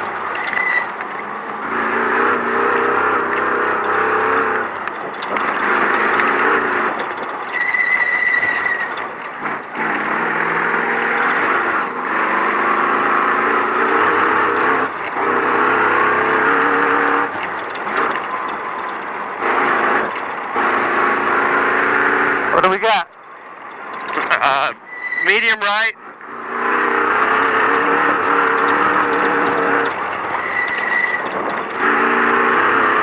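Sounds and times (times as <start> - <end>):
truck engine revving: 0.0 - 33.0
tyres and rattles: 0.0 - 33.0.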